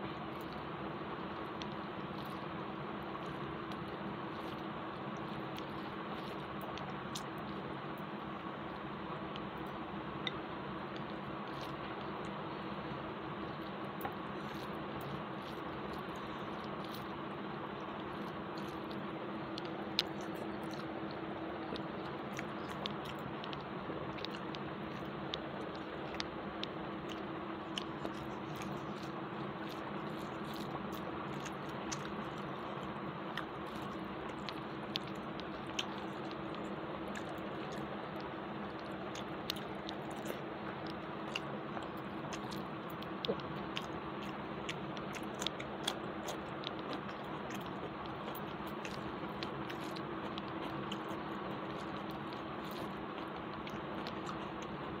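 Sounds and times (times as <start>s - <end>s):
close-up chewing: 0.0s - 55.0s
fingers mixing rice: 0.0s - 55.0s
steady background hum: 0.0s - 55.0s.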